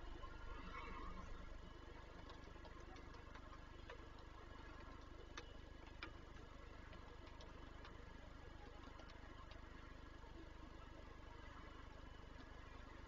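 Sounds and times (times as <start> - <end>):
low hum: 0.0 - 13.0
raindrops ticking on wood: 0.1 - 13.0.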